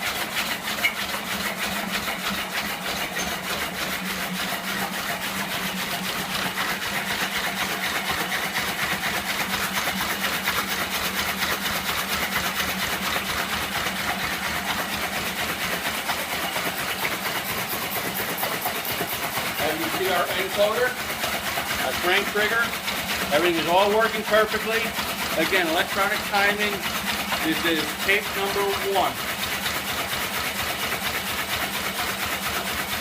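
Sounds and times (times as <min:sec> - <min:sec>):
fast mechanical rattle: 0:00.0 - 0:33.0.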